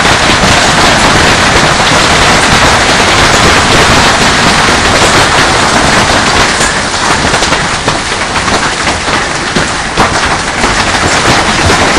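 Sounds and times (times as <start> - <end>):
hailstones falling hard: 0.0 - 11.9.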